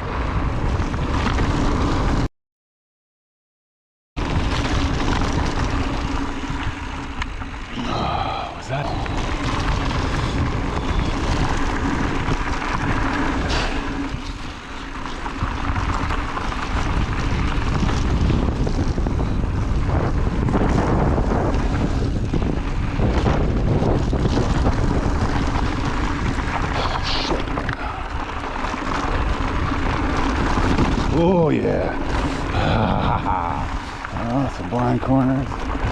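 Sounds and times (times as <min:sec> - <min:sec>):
bike tyres rolling on dirt: 0:00.0 - 0:02.3, 0:04.2 - 0:35.9
wind on microphone: 0:04.2 - 0:35.9.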